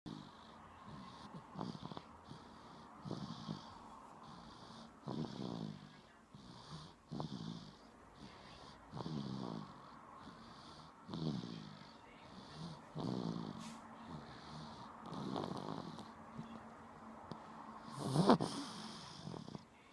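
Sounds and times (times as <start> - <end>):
snoring: 0.1 - 16.6, 17.3 - 19.7.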